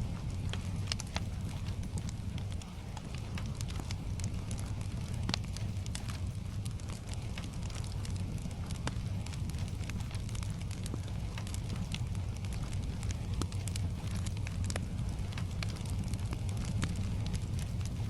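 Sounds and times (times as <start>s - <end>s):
low rumble: 0.0s - 18.0s
wood fire crackling and popping: 0.0s - 18.0s.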